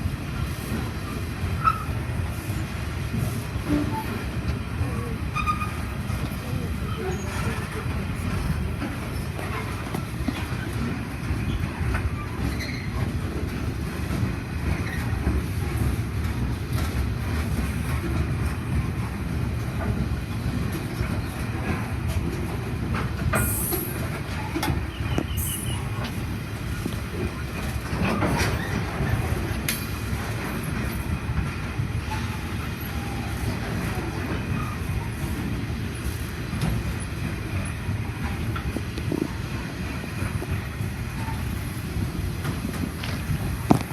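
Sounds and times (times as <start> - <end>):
train wagons rumbling: 0.0 - 43.9
wheels clacking over rail joints: 0.0 - 43.9.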